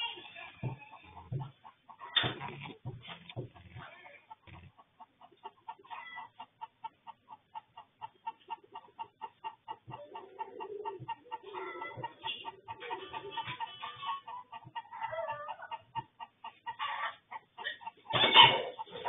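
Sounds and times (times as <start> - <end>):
chickens clucking: 0.0 - 19.0
drawn-out chicken call: 0.0 - 19.0.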